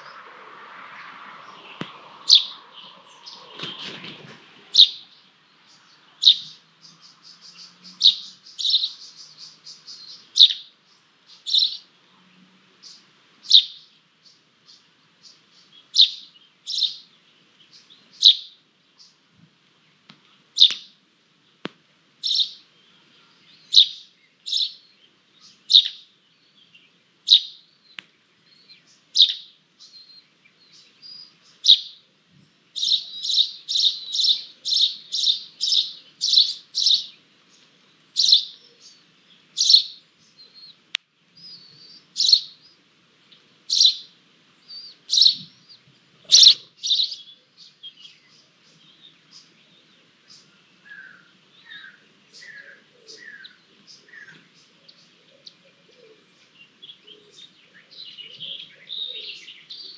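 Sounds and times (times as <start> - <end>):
bird chirping: 0.0 - 19.2, 19.9 - 21.6, 22.2 - 59.9.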